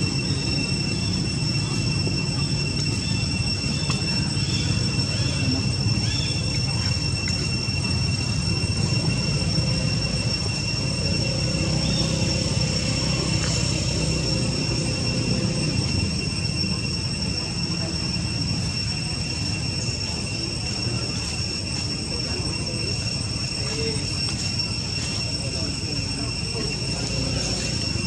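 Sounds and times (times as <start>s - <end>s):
high-pitched whine: 0.0s - 28.0s.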